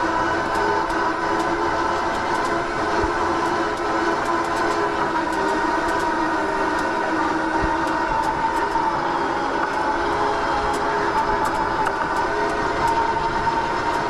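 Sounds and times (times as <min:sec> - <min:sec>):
electric lawn mower whine: 0:00.0 - 0:14.0.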